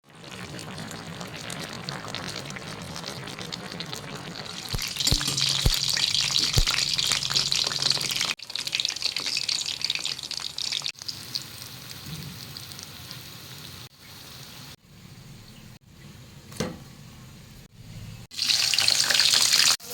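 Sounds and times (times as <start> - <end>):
food sizzling in a pan: 0.1 - 14.9, 18.3 - 19.9.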